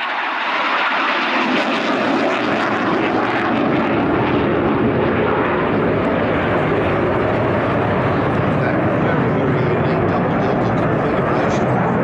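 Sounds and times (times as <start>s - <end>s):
fighter jet engine roar: 0.0s - 12.0s.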